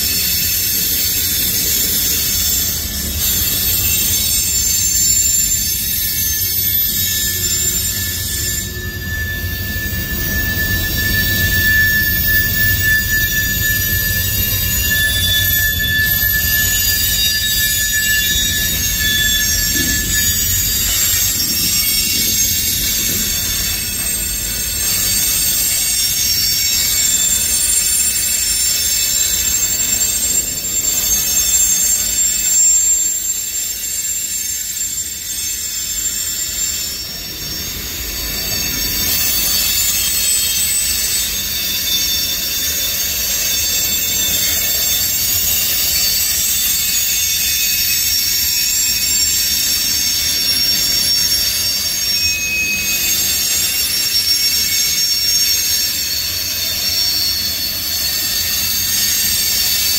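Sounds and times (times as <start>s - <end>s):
high brake squeal: 0.0s - 59.9s
train wheels rumbling on rail: 0.0s - 59.9s.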